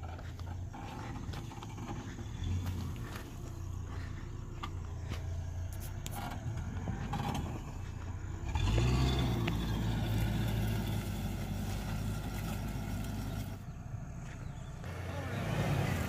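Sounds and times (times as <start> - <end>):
vehicle engine driving off: 0.0 - 16.0.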